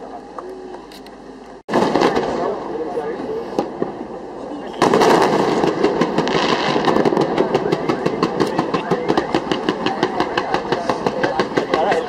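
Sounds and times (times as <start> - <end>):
fireworks cracking bangs: 1.7 - 12.0.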